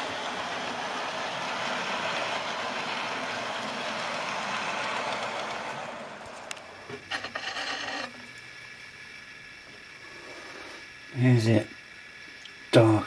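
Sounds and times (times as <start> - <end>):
model train wheels rolling on rail: 0.0 - 13.0.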